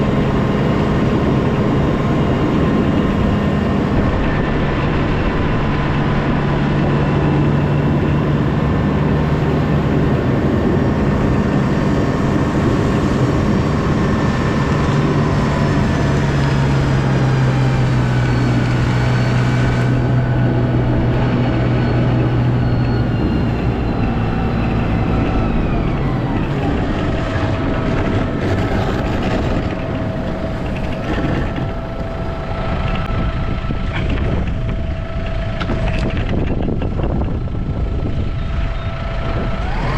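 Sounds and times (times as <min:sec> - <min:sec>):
snow plow engine running: 0:00.0 - 0:39.9.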